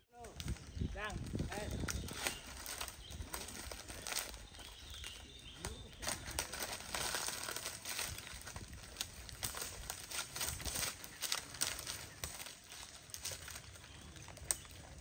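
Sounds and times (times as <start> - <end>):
leaves and twigs rustling: 0.1 - 15.0.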